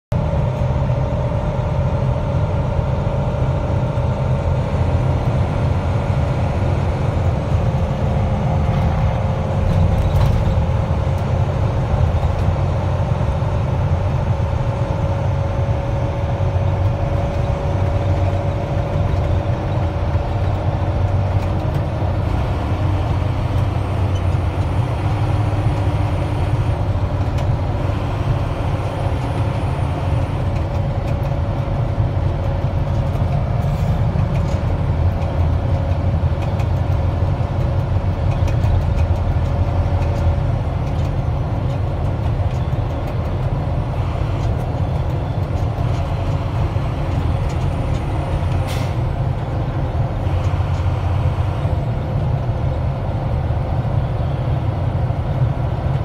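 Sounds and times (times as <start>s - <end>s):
faint engine whine: 0.1s - 56.0s
truck diesel engine rumble: 0.1s - 56.0s.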